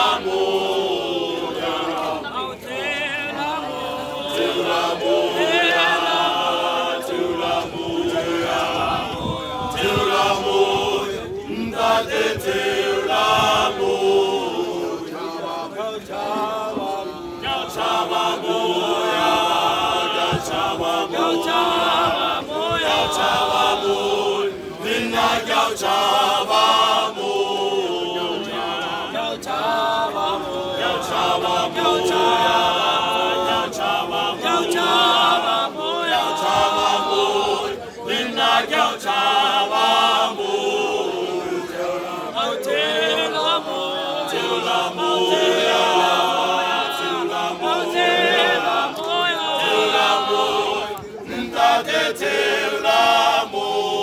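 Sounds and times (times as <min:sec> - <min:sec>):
male choir singing a cappella: 0:00.0 - 0:54.0.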